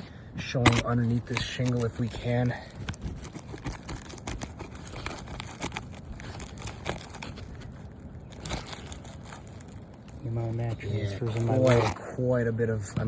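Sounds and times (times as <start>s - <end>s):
roof shingle crackling and scraping: 0.0s - 13.0s.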